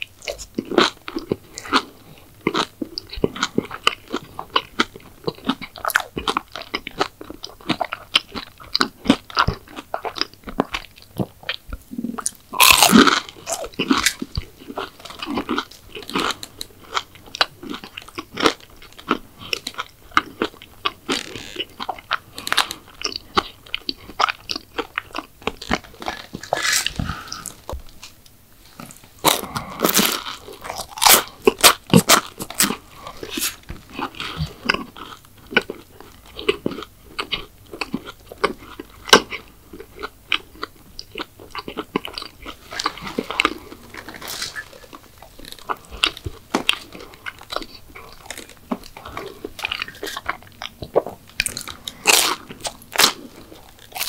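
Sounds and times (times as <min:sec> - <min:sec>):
crunchy sweets being chewed: 0:00.0 - 0:54.0.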